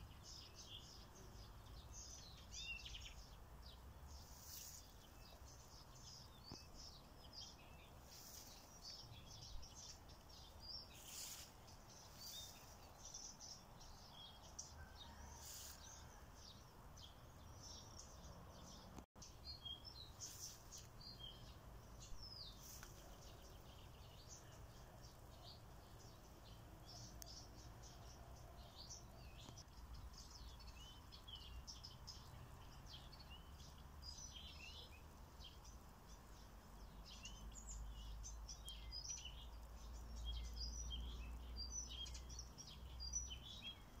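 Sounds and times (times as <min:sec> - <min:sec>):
small birds chirping and trilling: 0:00.0 - 0:44.0.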